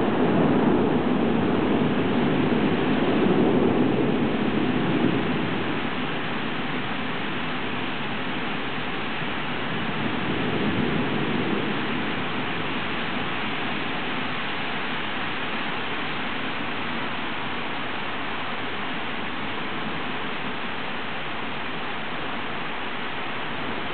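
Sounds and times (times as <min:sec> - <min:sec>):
heavy rain rushing: 0:00.0 - 0:23.9.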